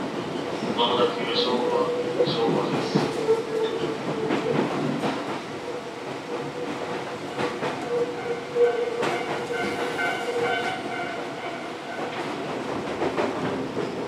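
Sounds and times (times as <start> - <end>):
train rolling rumble: 0.0 - 14.0.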